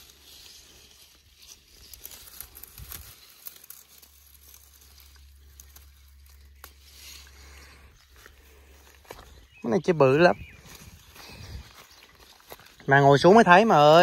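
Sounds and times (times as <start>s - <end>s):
leaves rustling and crackling: 0.0s - 14.0s.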